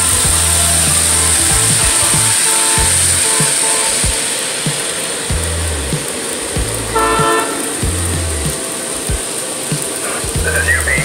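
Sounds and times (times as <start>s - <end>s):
model train motors whirring: 0.0s - 11.0s
steady tones: 0.0s - 11.0s
wheels rolling on metal track: 0.0s - 11.0s.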